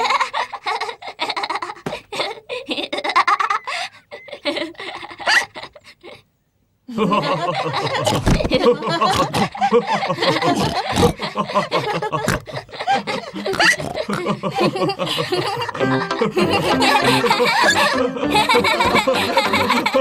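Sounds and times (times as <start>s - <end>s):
cartoon characters laughing: 0.0s - 5.8s, 6.9s - 20.0s.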